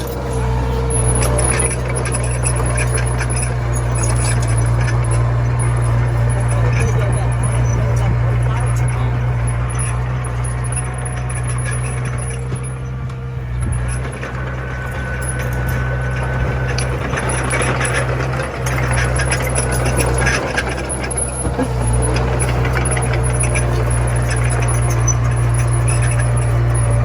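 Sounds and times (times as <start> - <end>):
bulldozer diesel engine running: 0.0 - 27.0
metallic rattling: 0.0 - 27.0.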